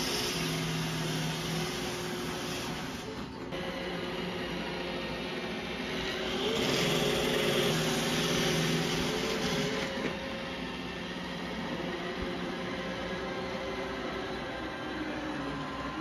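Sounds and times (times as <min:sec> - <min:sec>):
robot vacuum motor whine: 0:00.0 - 0:16.0.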